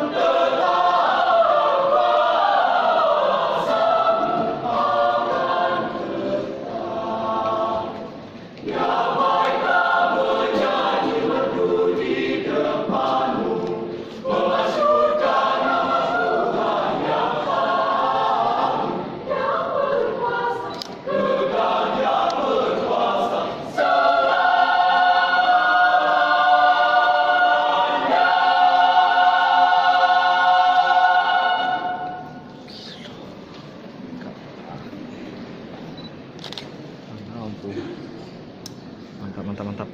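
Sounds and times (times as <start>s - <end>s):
youth choir singing: 0.0s - 32.6s.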